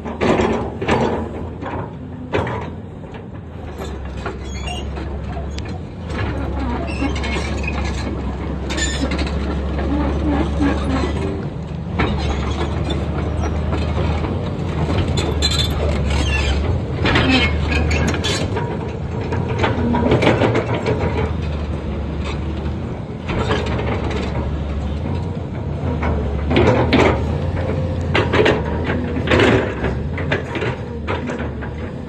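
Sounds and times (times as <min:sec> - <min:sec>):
diesel engine running: 0:00.0 - 0:32.0
metallic clanking and rattling: 0:00.0 - 0:32.0.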